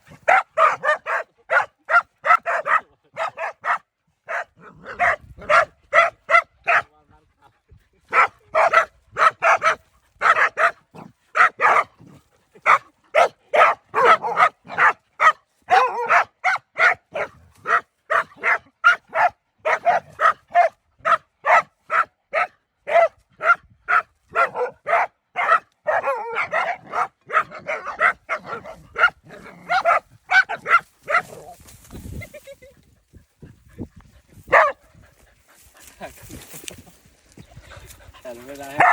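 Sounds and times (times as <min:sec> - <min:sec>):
dogs barking rapidly: 0:00.0 - 0:06.9, 0:08.1 - 0:31.6, 0:33.4 - 0:35.0, 0:37.8 - 0:38.9.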